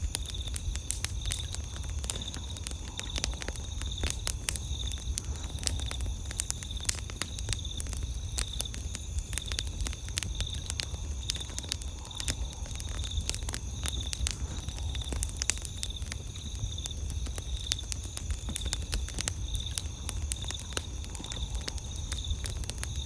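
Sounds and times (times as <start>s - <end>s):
campfire crackling and popping: 0.0s - 23.0s
night insects chirping: 0.0s - 23.0s.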